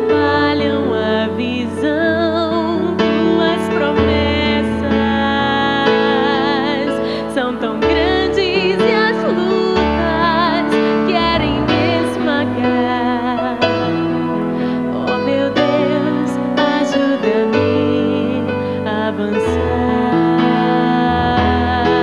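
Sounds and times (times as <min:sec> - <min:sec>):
held accompaniment chords: 0:00.0 - 0:22.0
woman singing ballad: 0:00.0 - 0:22.0.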